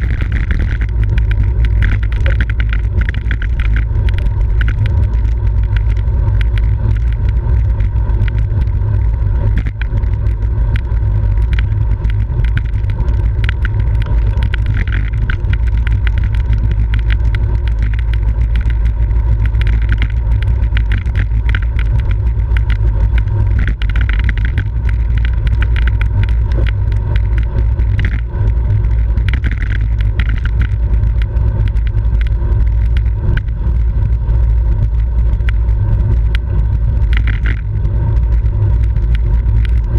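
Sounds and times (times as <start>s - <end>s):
bicycle clicks and rattles: 0.0s - 39.9s
wind rumbling on microphone: 0.0s - 39.9s.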